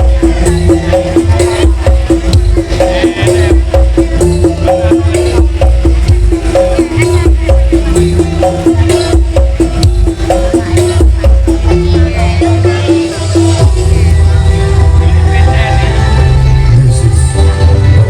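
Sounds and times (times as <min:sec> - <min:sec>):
loud bass-heavy music: 0:00.0 - 0:18.0.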